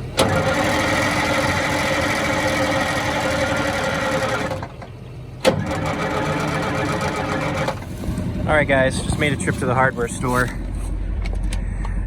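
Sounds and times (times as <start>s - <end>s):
starter cranking diesel engine: 0.0s - 12.0s.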